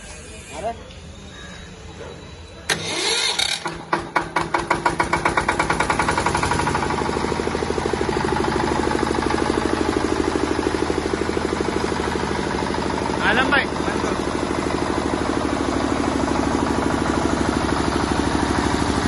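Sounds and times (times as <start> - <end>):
diesel generator engine starting: 1.8 - 19.0.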